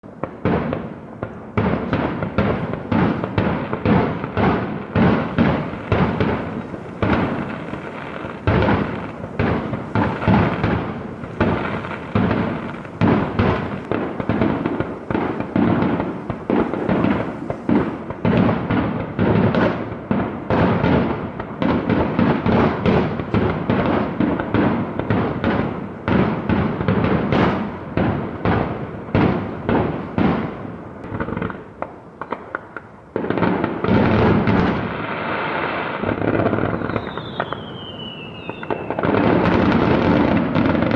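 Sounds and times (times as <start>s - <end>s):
fireworks banging: 0.0s - 40.9s.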